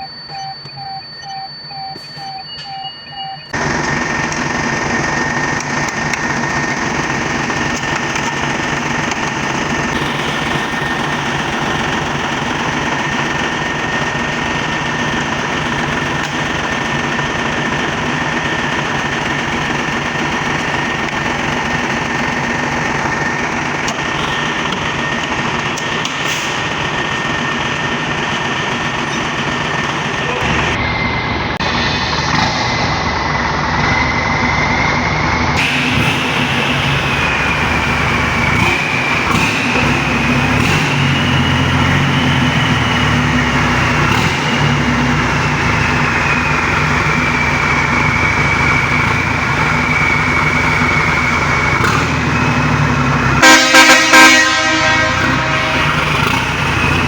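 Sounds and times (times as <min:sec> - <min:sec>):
diesel engine running: 0:00.0 - 0:57.0
high whine: 0:00.0 - 0:57.0.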